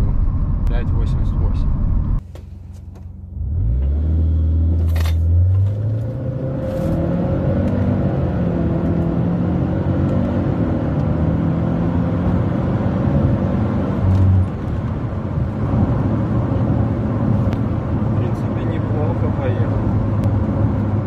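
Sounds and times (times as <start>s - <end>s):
car engine accelerating hard: 3.4s - 21.0s.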